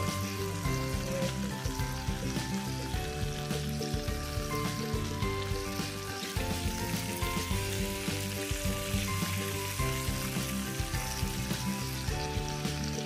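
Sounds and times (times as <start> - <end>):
background music: 0.0 - 13.0
chicken sizzling in oil: 0.0 - 13.0.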